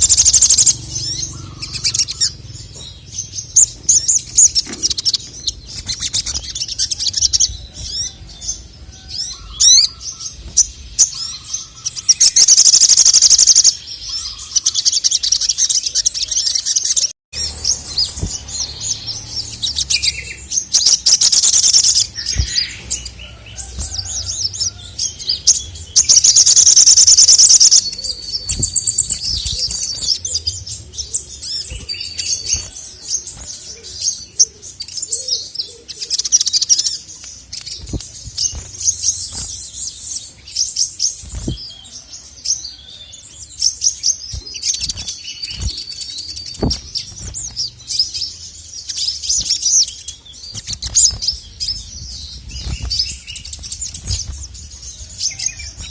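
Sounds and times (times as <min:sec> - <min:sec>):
sunbird chirping and trilling: 0:00.0 - 0:55.9.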